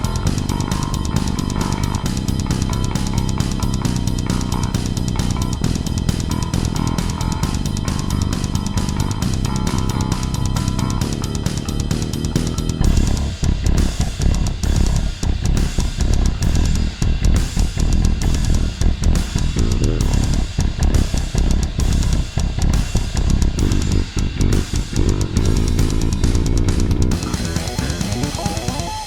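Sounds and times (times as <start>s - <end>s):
electric bass with octaver: 0.0s - 29.0s
metal track with drum kit: 0.0s - 29.0s.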